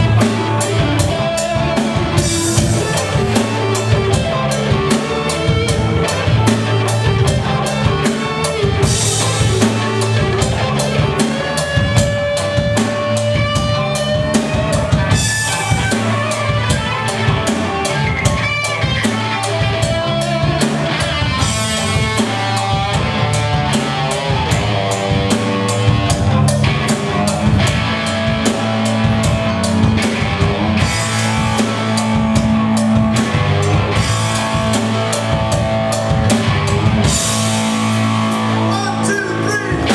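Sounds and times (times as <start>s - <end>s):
drum kit steady beat: 0.0s - 39.9s
electric bass: 0.0s - 39.9s
lead electric guitar: 0.0s - 39.9s.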